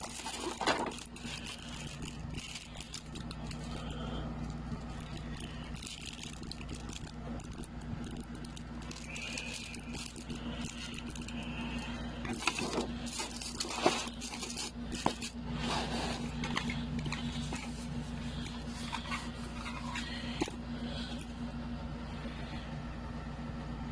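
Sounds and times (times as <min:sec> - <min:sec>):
packaging rustling and scraping: 0:00.0 - 0:21.4
steady low hum: 0:00.0 - 0:23.9.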